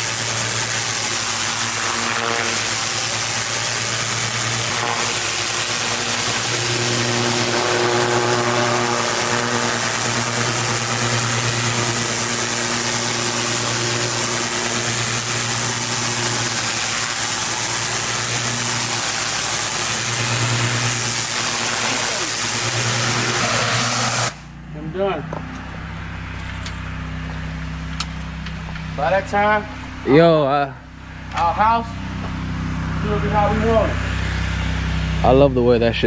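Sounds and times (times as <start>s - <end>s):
high-pressure water spray hissing: 0.0s - 24.4s, 30.9s - 35.3s
pressure washer engine humming: 0.0s - 36.0s.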